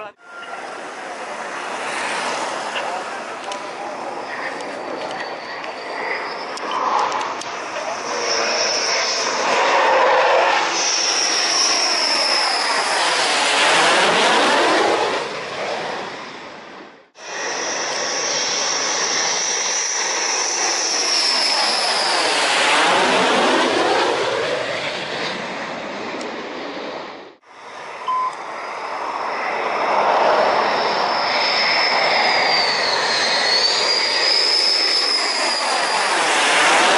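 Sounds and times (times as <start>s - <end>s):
jet aircraft passing overhead: 0.0s - 36.9s.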